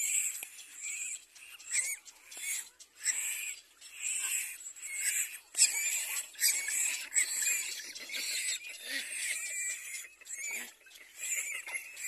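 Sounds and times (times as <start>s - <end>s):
nestlings harsh begging calls: 0.0s - 12.0s.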